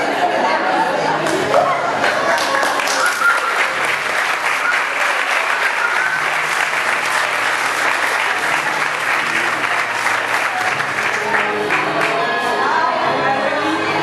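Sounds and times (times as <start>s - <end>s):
crowd clapping: 1.2s - 12.5s.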